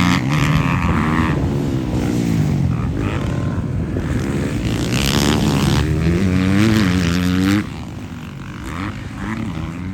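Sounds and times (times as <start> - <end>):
motocross bike engine: 0.0 - 9.9.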